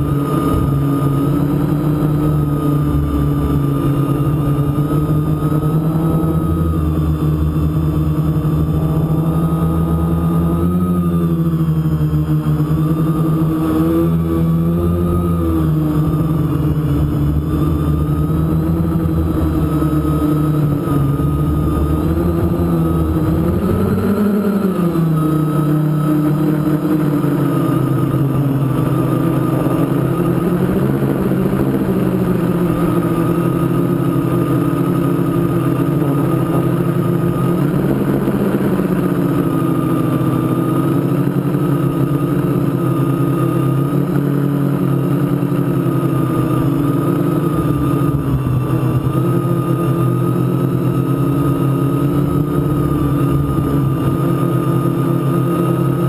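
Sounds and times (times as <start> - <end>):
quadcopter propellers buzzing: 0.0 - 56.0.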